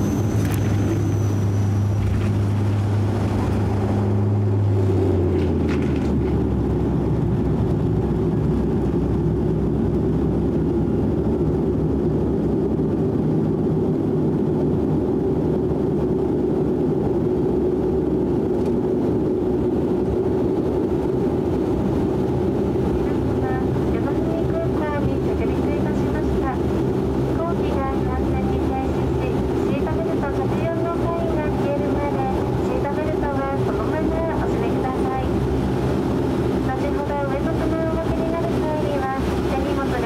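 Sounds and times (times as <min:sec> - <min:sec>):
engine and airflow rumble: 0:00.0 - 0:40.0
low propeller hum: 0:00.0 - 0:40.0.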